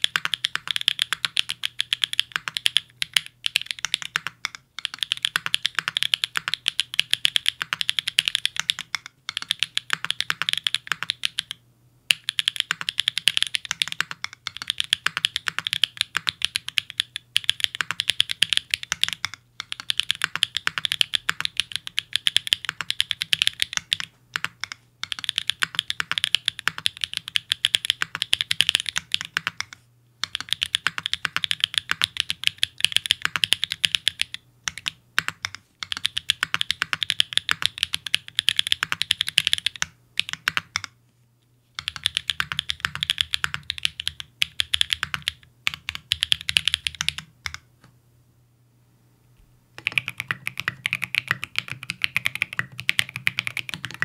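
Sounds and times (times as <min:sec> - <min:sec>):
mechanical keyboard typing: 0:00.0 - 0:41.0, 0:41.8 - 0:47.7, 0:49.8 - 0:54.0.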